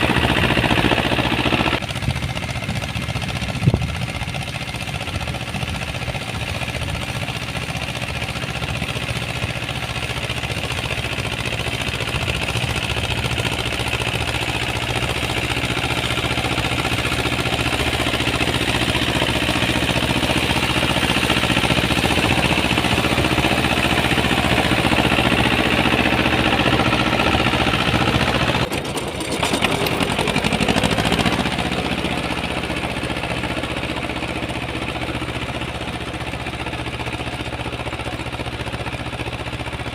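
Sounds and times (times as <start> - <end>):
rotary tiller churning soil: 0.0 - 39.9
walk-behind tractor running: 0.0 - 39.9.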